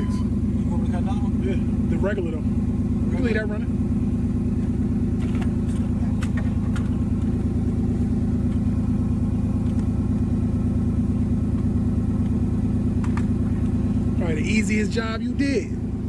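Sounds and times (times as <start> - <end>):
pickup engine idling: 0.0 - 16.0.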